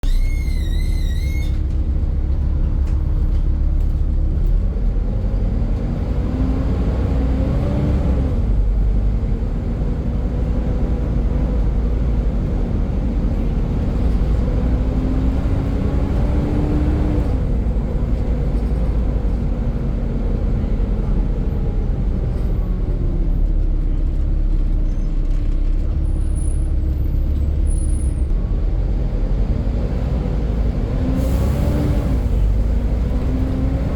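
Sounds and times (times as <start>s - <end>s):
bus engine rumble and whine: 0.0s - 33.9s.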